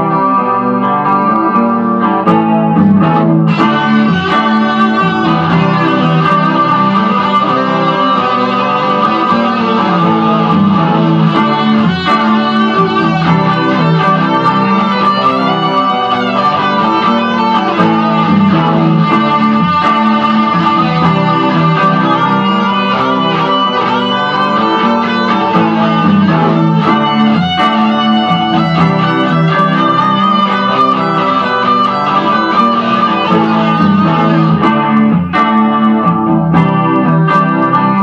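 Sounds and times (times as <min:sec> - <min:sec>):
guitar-led rock music: 0:00.0 - 0:38.0.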